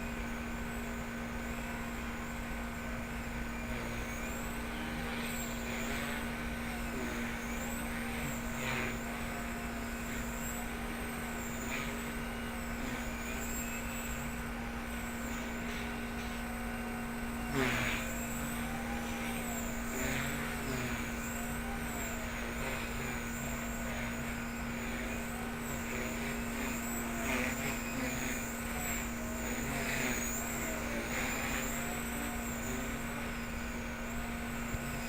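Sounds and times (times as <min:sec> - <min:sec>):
rc helicopter rotor buzz: 0:00.0 - 0:35.0.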